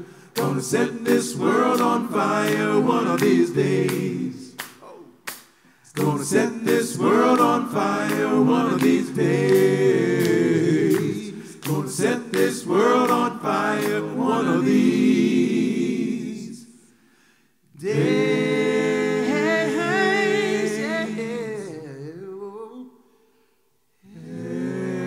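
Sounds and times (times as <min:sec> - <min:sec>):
vocal group singing held chords: 0:00.0 - 0:17.0, 0:17.7 - 0:23.0, 0:24.0 - 0:25.0.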